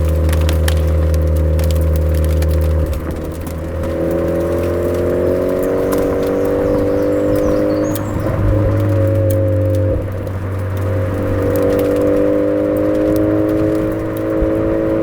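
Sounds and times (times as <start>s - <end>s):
car engine and exhaust drone: 0.0s - 15.0s.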